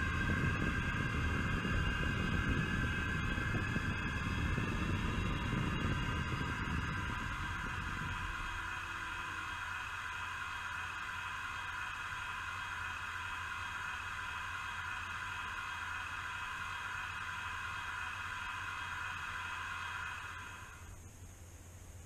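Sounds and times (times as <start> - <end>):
low hum: 0.0 - 22.0
steady hiss: 0.0 - 22.0.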